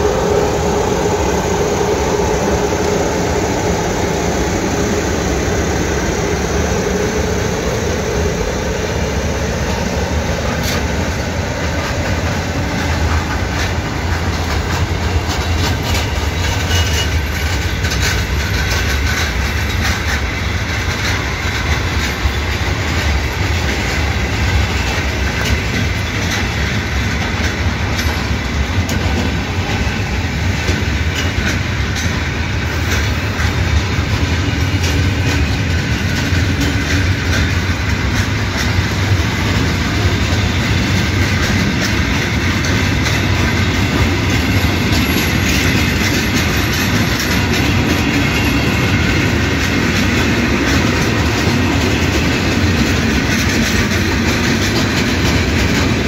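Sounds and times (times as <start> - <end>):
freight train rumbling on rails: 0.0 - 56.0
sharp train wheel clicks: 10.5 - 56.0.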